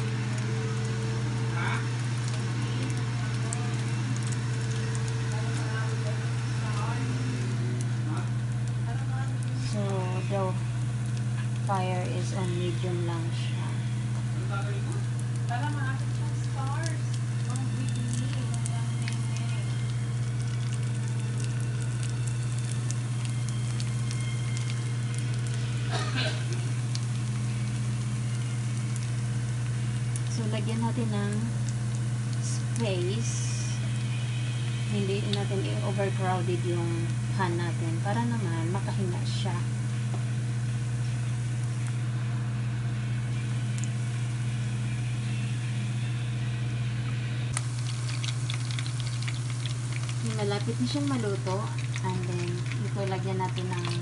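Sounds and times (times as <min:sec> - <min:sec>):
oil crackling: 0:00.0 - 0:39.9, 0:47.5 - 0:54.0
food sizzling in hot oil: 0:00.0 - 0:42.1, 0:47.5 - 0:54.0
low steady hum: 0:00.0 - 0:54.0.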